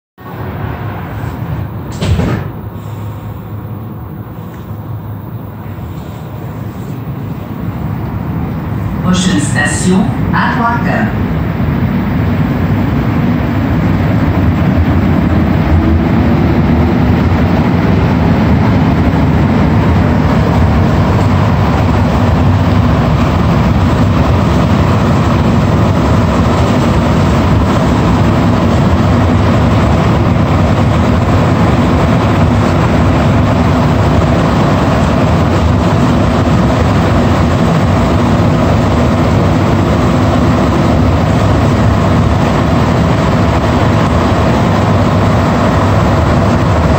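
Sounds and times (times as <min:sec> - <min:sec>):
train car running rumble: 0:00.2 - 0:46.9.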